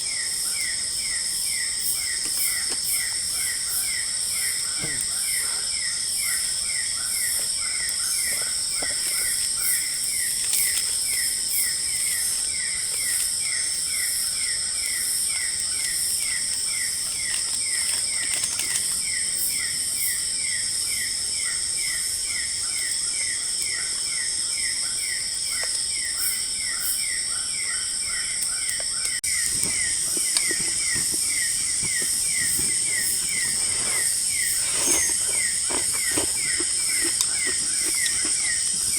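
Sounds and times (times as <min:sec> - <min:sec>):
rapid insect chirping: 0:00.0 - 0:38.9.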